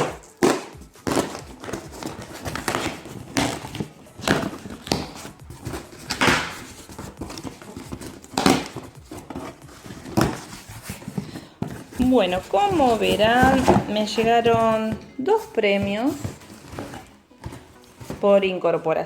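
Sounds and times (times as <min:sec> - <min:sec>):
cardboard box being unpacked: 0:00.0 - 0:18.4.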